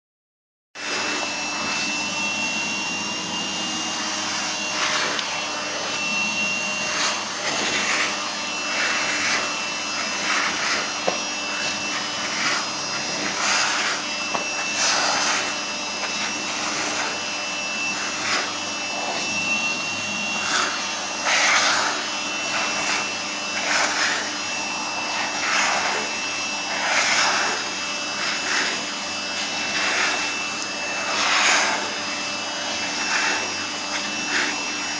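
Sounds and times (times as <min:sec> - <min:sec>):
vacuum cleaner whining hum: 0:00.8 - 0:34.9
vacuum hiss over fur: 0:00.8 - 0:34.9.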